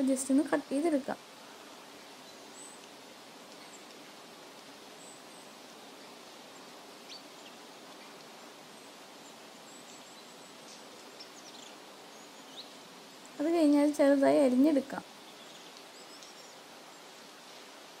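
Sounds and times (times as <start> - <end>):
faint outdoor background hiss: 0.0 - 18.0.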